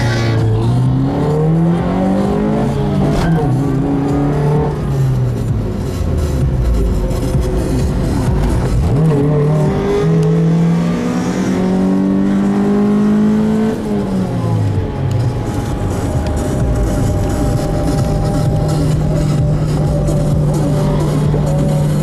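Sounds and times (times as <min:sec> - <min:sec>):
car engine accelerating: 0:00.0 - 0:22.0
road rumble: 0:00.0 - 0:22.0.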